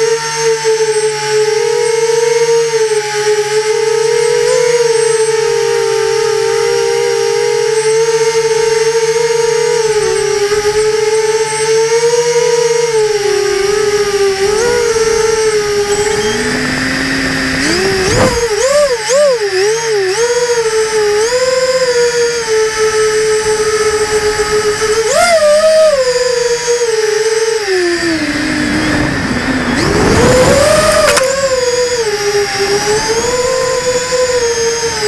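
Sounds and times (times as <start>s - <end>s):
quadcopter propellers whining: 0.0s - 35.0s.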